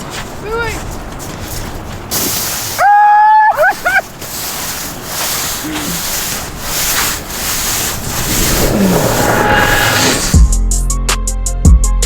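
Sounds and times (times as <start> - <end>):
rustling noise: 0.0 - 3.0, 3.6 - 10.5.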